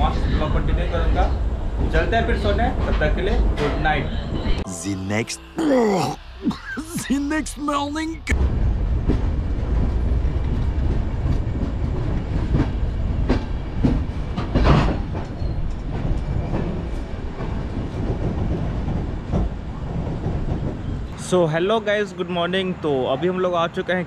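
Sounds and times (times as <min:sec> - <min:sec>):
train low rumble: 0:00.0 - 0:05.5, 0:06.2 - 0:22.4.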